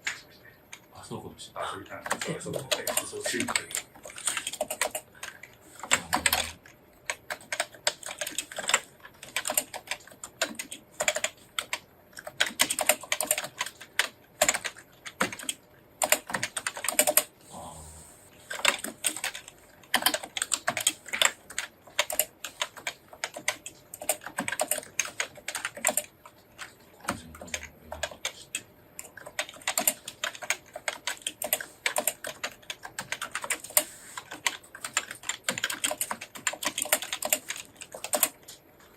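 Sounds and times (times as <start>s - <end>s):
fast typing on keyboard: 1.9s - 17.3s, 18.4s - 38.9s.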